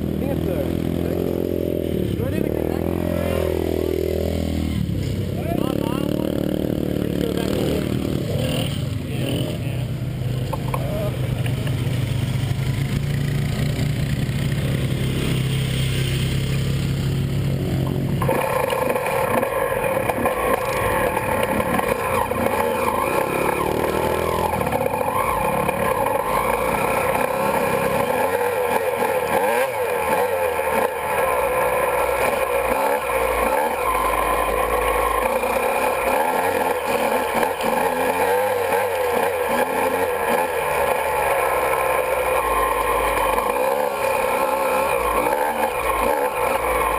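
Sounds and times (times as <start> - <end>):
two-stroke motorcycle engine: 0.0 - 46.9.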